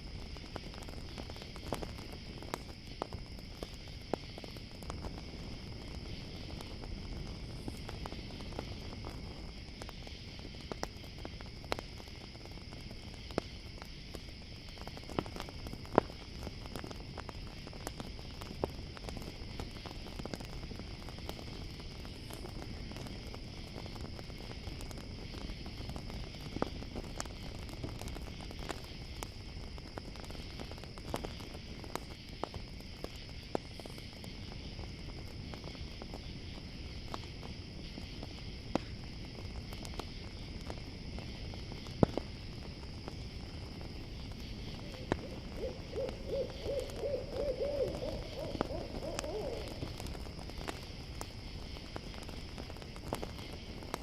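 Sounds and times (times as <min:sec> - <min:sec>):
campfire crackling and popping: 0:00.0 - 0:54.0
crickets chirring: 0:00.0 - 0:54.0.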